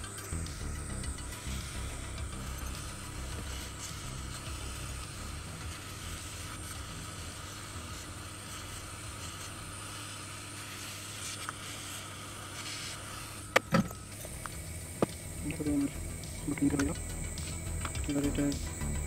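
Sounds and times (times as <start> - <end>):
hot air gun blowing: 0.0 - 19.0.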